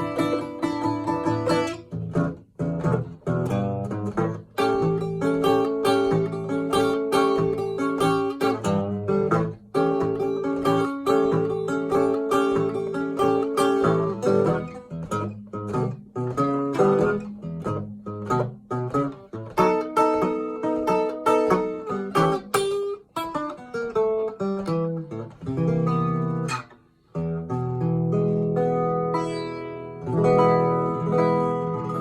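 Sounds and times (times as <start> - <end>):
acoustic guitar fingerstyle blues: 0.0 - 32.0.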